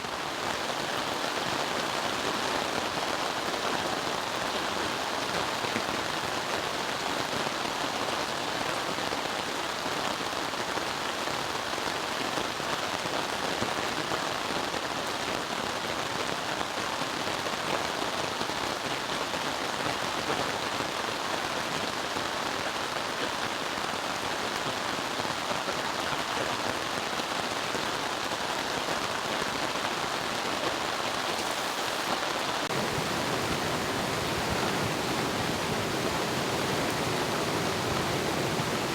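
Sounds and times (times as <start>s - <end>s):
rain drumming on a tarp: 0.0s - 38.9s.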